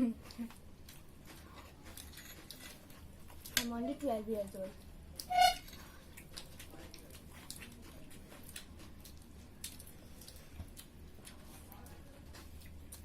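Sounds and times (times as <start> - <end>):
low steady hum: 0.0 - 13.0
people chewing: 0.0 - 13.0.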